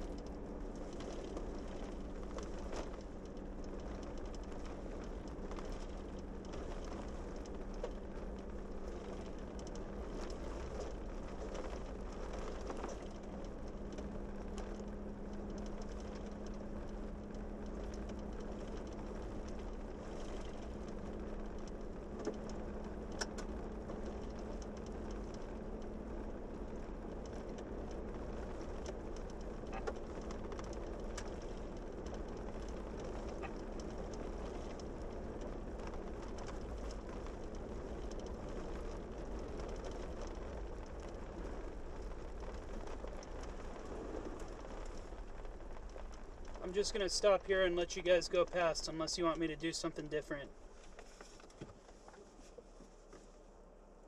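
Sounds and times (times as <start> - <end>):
small ticks and clicks: 0.0 - 53.4
car rumbling on gravel: 0.0 - 54.0.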